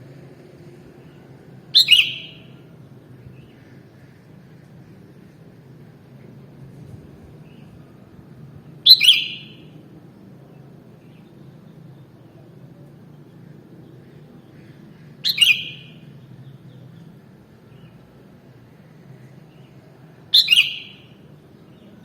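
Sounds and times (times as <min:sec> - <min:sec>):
bird song phrases: 0:00.5 - 0:06.4, 0:08.8 - 0:22.0.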